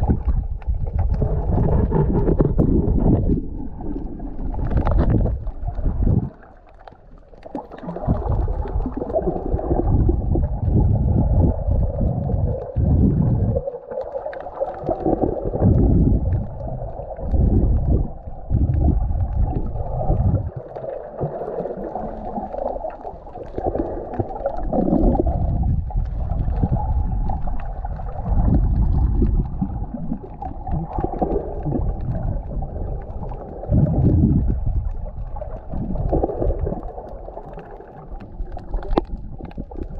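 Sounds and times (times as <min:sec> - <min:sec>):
underwater water rushing: 0:00.0 - 0:39.9.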